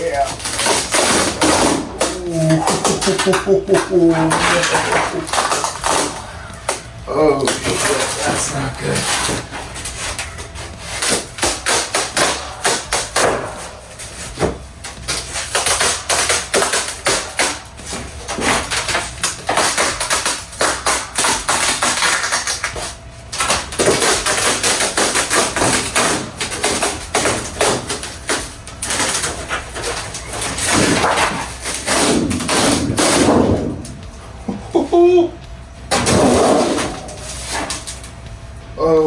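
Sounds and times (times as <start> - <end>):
fiberglass cracking: 0.0 - 34.4, 35.5 - 38.5.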